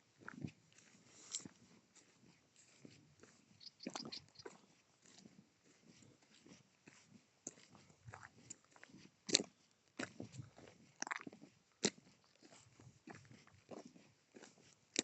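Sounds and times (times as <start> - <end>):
cow tearing and chewing grass: 0.3 - 15.0.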